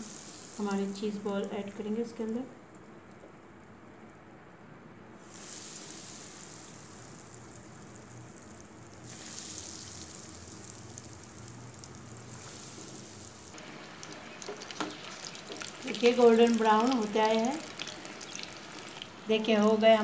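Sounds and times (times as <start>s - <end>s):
hot oil sizzling: 0.0s - 2.2s, 5.2s - 20.0s.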